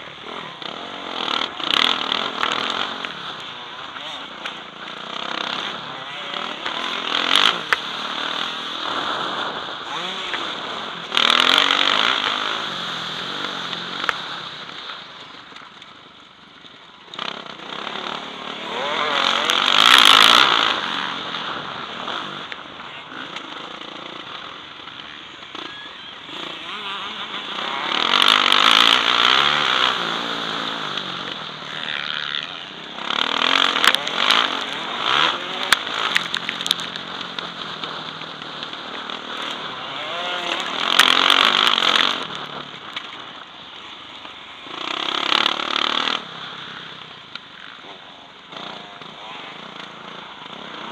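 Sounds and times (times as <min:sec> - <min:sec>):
motocross bike engine revving: 0:00.0 - 0:15.5, 0:17.0 - 0:50.9.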